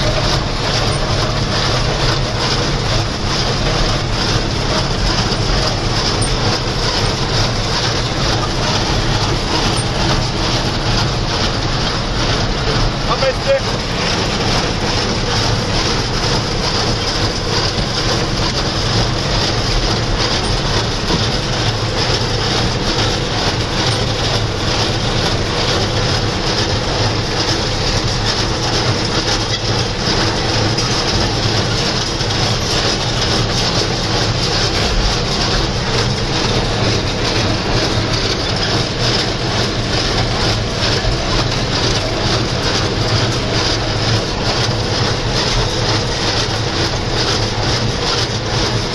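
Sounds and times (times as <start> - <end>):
tractor engine pulling baler: 0.0 - 48.9.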